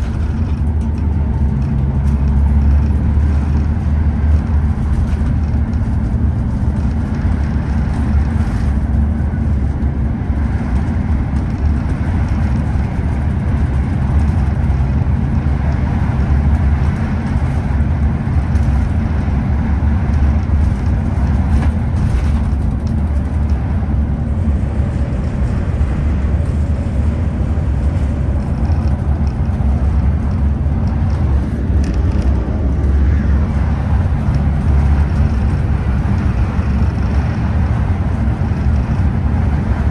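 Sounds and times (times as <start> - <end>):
coach diesel engine droning: 0.0 - 39.9
road and tyre noise: 0.0 - 39.9.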